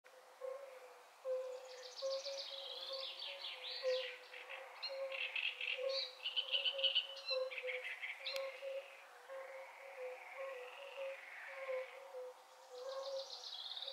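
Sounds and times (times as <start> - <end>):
birds singing and chattering: 0.4 - 13.9
frogs calling: 0.4 - 13.9.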